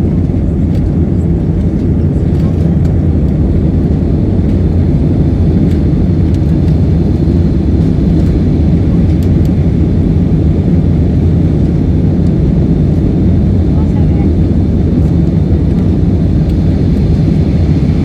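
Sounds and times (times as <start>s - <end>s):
airliner engines rumbling: 0.0s - 18.0s.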